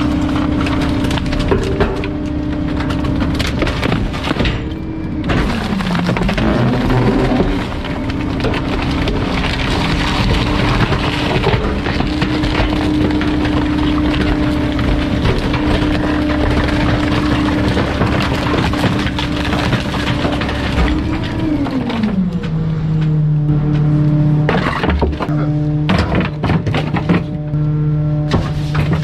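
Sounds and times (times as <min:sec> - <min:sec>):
wood cracking and breaking: 0:00.0 - 0:27.6, 0:28.3 - 0:29.0
mechanical whine: 0:00.0 - 0:29.0.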